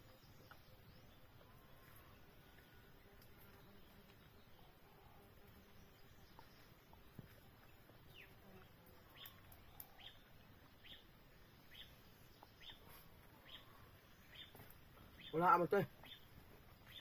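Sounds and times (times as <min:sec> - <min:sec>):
bird chirping faintly: 0:00.0 - 0:17.0.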